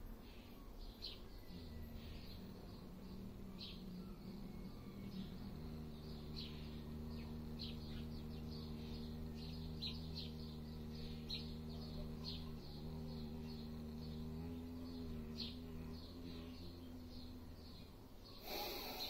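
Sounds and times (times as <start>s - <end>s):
small birds chirping: 0.0s - 19.0s
man humming low note: 1.3s - 19.0s.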